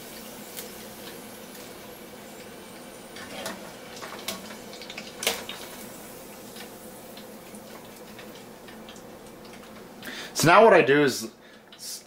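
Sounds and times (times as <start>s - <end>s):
oil frying with steady hiss: 0.0s - 12.0s.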